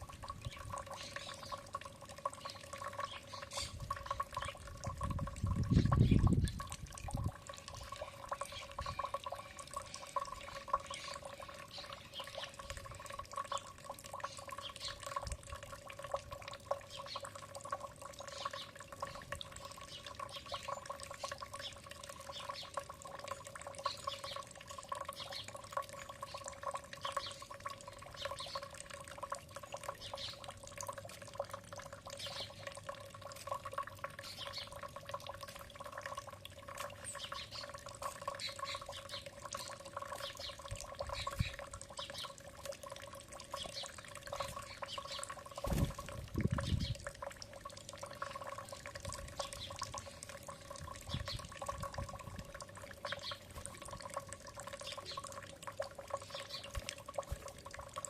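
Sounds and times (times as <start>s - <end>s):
water dripping and trickling: 0.0s - 58.0s.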